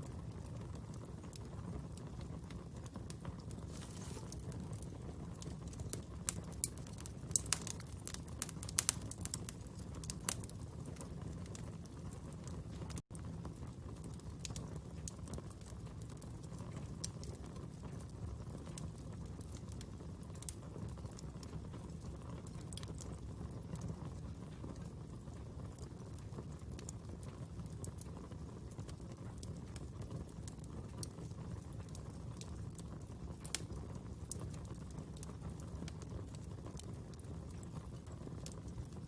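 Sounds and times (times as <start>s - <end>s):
fire crackling and popping: 0.0s - 39.0s.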